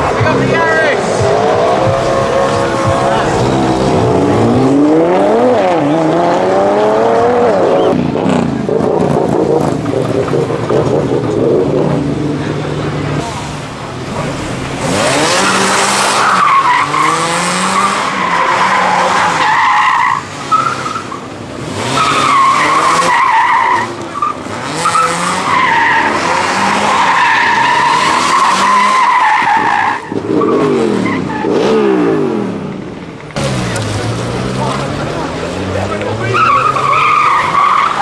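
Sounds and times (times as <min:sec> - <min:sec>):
tyres squealing: 0:00.0 - 0:12.2, 0:13.0 - 0:38.0
car engine revving: 0:00.0 - 0:38.0.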